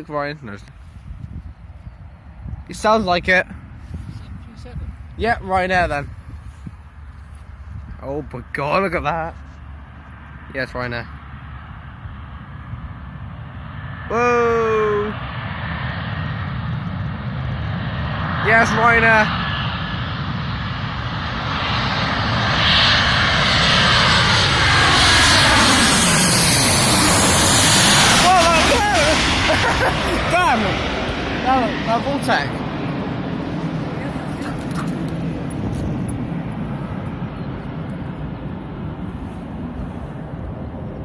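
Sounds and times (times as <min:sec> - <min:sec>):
airliner engines roaring overhead: 0:00.0 - 0:41.0.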